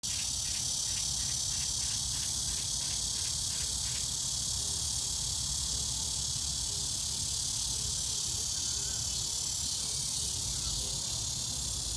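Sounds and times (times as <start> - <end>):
insect calling in quick pulses: 0.0 - 11.9
insect chorus droning: 0.0 - 11.9.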